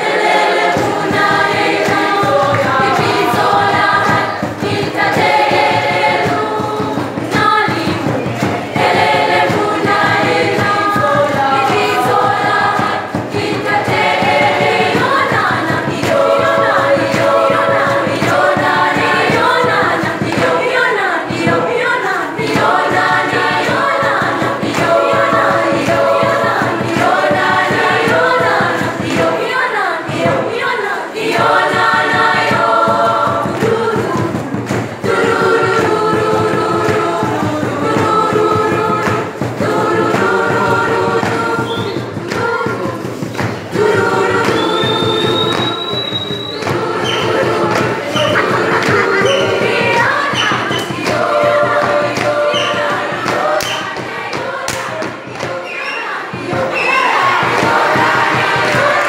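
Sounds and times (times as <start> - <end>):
children's choir singing a cappella: 0.0 - 59.0.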